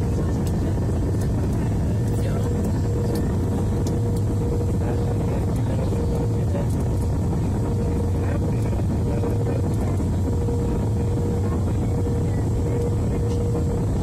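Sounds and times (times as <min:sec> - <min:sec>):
engine and airflow roar: 0:00.0 - 0:14.0.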